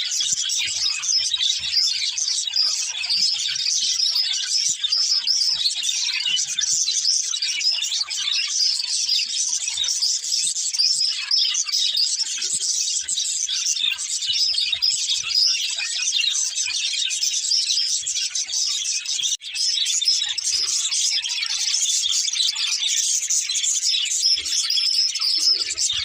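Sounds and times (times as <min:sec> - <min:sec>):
budgerigars chirping and warbling: 0:00.0 - 0:26.0.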